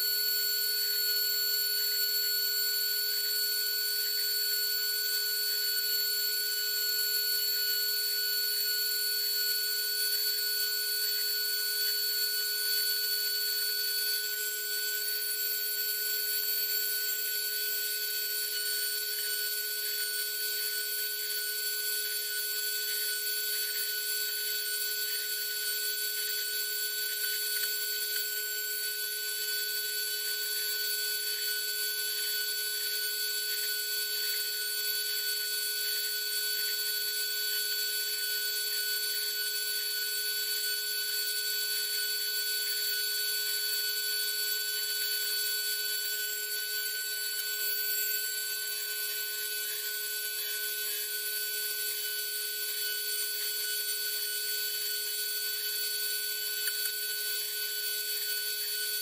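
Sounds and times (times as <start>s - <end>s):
small power drill whining: 0.0s - 59.0s.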